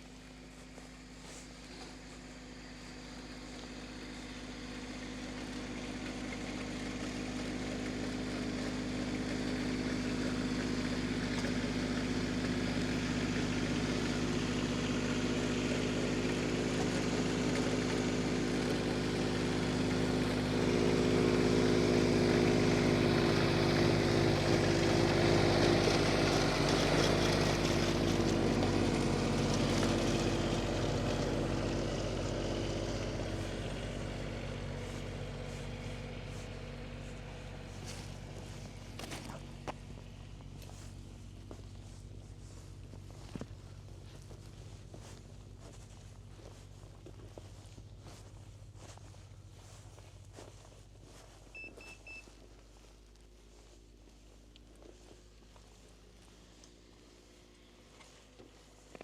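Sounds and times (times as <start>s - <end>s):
vehicle engine droning past: 0.0s - 59.0s.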